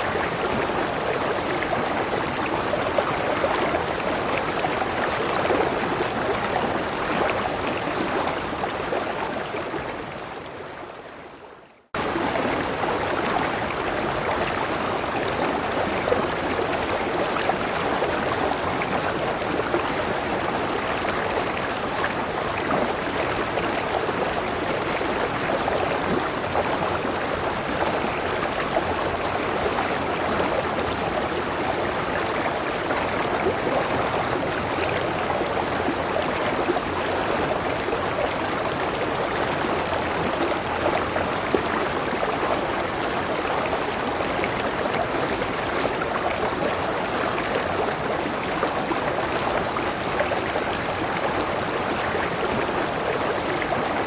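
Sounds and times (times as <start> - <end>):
river water running: 0.0 - 54.0.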